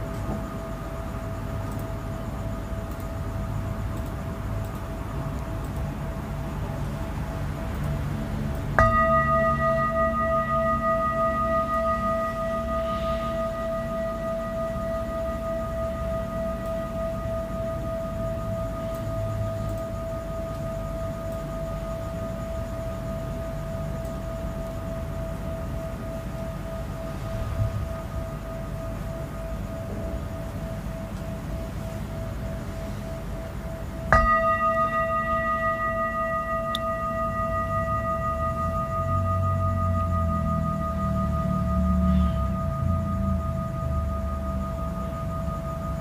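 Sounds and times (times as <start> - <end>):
singing bowl ringing tone: 0.0 - 5.2, 6.1 - 46.0
low steady rumble: 0.0 - 46.0.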